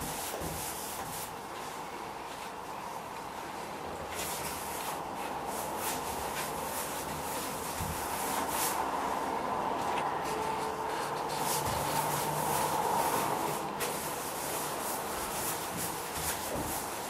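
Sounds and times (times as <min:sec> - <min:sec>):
paintbrush swishing strokes: 0:00.0 - 0:17.0.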